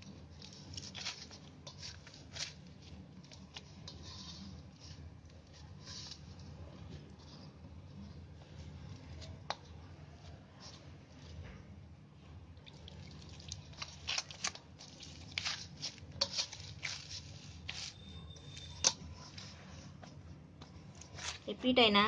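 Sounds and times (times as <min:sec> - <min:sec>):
hands kneading soft dough: 0:00.0 - 0:22.0.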